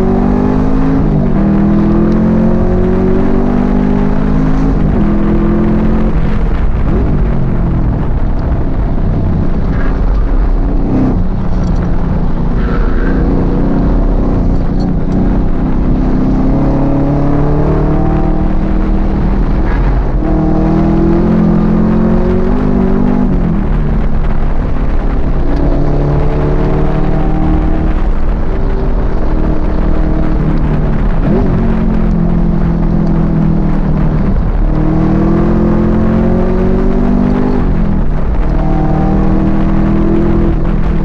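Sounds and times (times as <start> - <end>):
car engine at full throttle: 0.0 - 41.0.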